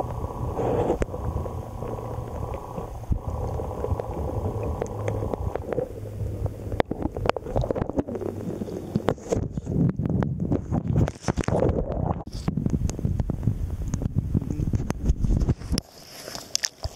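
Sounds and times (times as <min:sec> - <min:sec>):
faint steady hum: 0:00.0 - 0:16.7
underwater rumble and sloshing: 0:00.0 - 0:16.9.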